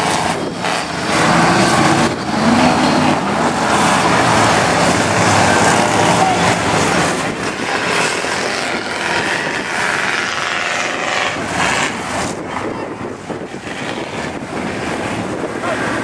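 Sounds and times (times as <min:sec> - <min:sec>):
truck engines running: 0:00.0 - 0:16.0.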